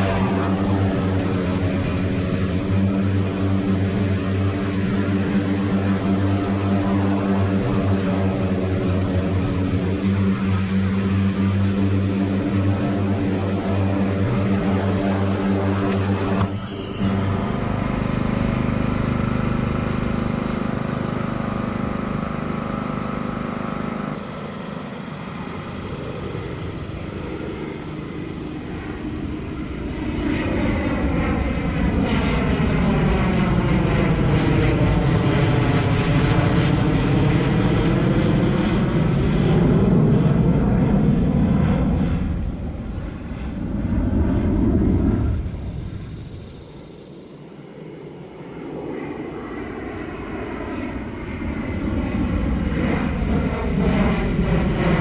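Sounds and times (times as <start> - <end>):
motor engine running: 0.0 - 47.9.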